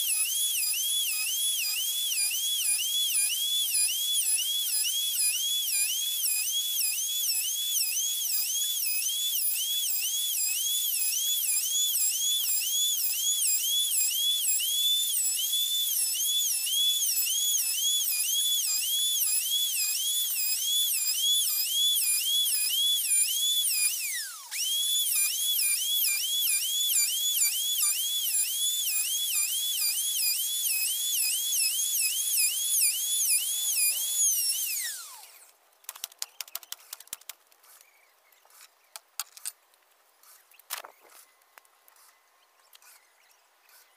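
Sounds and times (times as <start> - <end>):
router whining cutting wood: 0.0 - 35.6.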